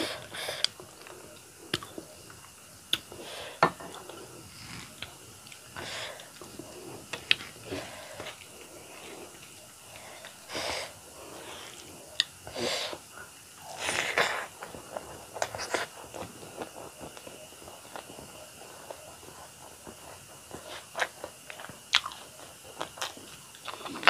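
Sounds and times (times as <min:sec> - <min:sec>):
person chewing rice: 0:00.0 - 0:24.0.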